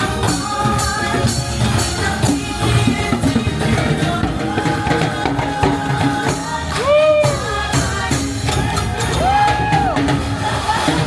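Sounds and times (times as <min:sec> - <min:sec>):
person singing: 0:00.0 - 0:11.0
upbeat music: 0:00.0 - 0:11.0.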